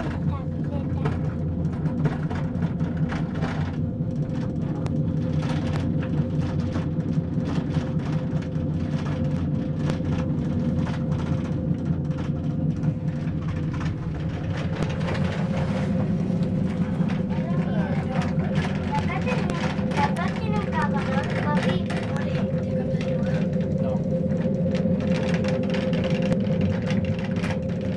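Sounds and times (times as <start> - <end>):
cable car rumble: 0.0 - 27.9
constant hum: 0.0 - 27.9
light clicks and rattles: 0.0 - 27.9.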